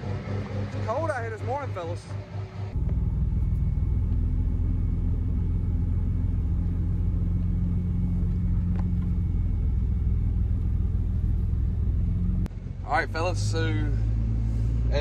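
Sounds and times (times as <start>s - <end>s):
engine and road rumble in cab: 0.0s - 15.0s.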